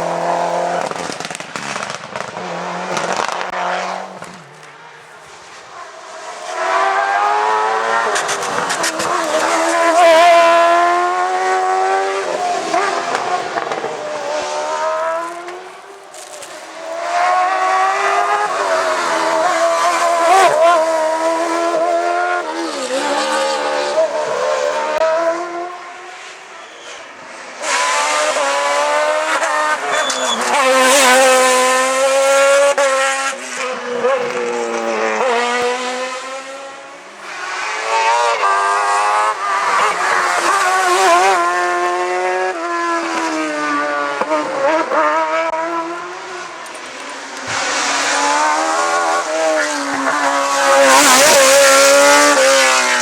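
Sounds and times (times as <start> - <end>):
race cars passing at full throttle: 0.0 - 53.0.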